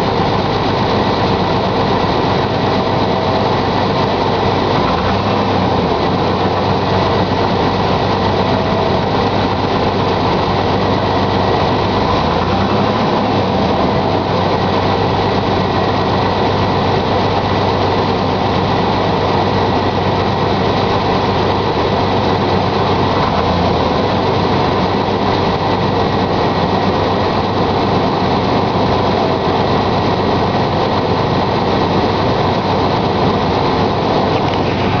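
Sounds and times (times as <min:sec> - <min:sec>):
car engine idling with knock: 0:00.0 - 0:35.0.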